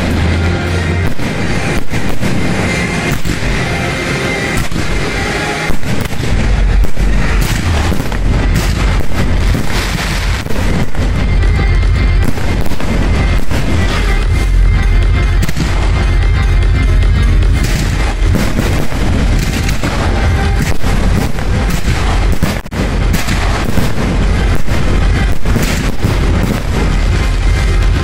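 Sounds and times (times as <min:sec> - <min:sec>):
fireworks bursting: 0:00.0 - 0:28.0
music with heavy bass beat: 0:00.0 - 0:28.0.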